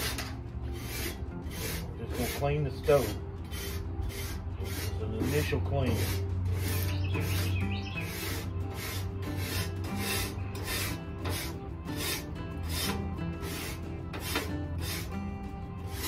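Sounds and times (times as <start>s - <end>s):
wire brush scrubbing metal: 0.0s - 16.0s.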